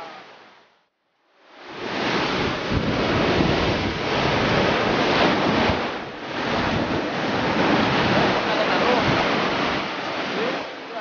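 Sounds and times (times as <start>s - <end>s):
surf breaking over rocks: 1.6s - 11.0s
wind buffeting microphone: 1.6s - 11.0s.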